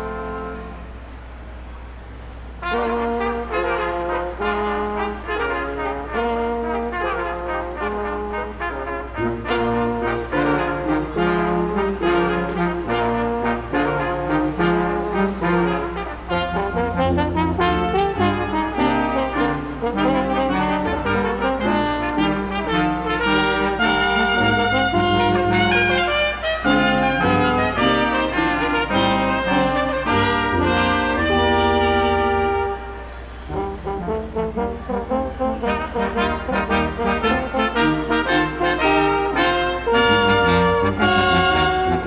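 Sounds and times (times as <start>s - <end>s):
brass ensemble playing: 0.0s - 1.2s, 2.4s - 42.0s.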